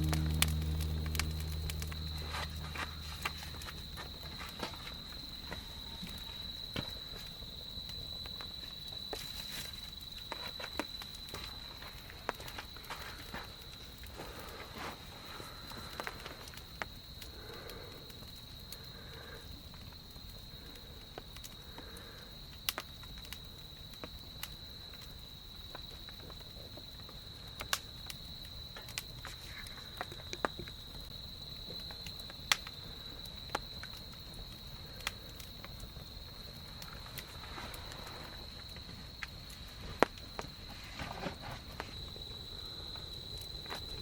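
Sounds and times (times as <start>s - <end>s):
campfire cracking and popping: 0.0s - 44.0s
insects trilling: 0.0s - 44.0s.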